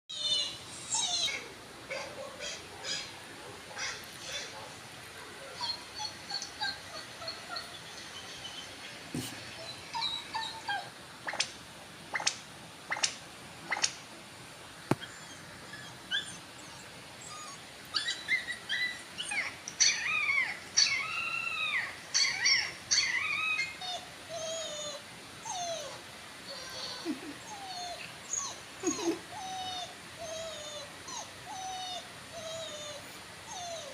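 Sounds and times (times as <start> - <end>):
puppy whining: 0.1 - 3.2, 5.4 - 11.0, 14.9 - 33.9.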